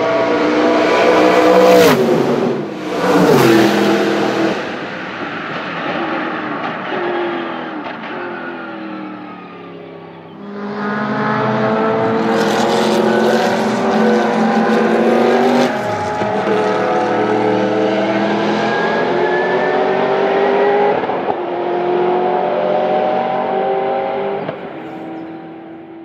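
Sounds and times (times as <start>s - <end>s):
racing engine accelerating: 0.0s - 26.0s.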